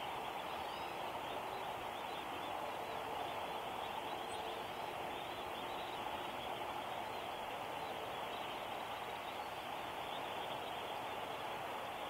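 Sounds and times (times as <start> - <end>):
distant flock of birds calling: 0.0 - 12.0.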